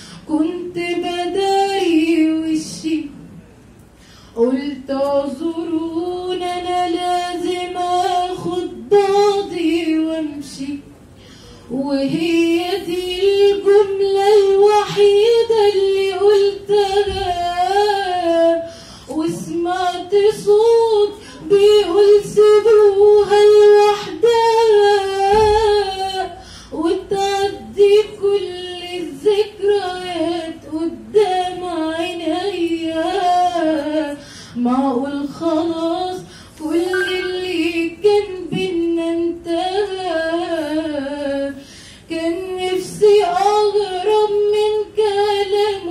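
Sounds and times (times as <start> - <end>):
girl singing unaccompanied: 4.4 - 10.9, 11.7 - 45.9.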